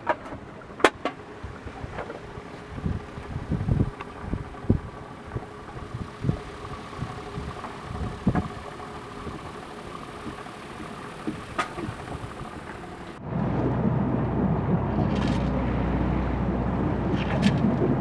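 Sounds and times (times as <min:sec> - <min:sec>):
boat engine running: 0:00.0 - 0:18.0
wind noise: 0:00.0 - 0:18.0.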